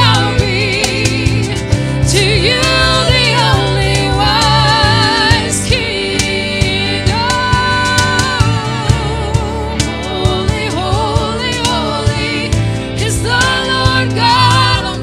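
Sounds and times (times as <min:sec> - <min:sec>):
keyboard: 0:00.0 - 0:15.0
steady percussion beat: 0:00.0 - 0:15.0
women singing with vibrato: 0:00.0 - 0:15.0.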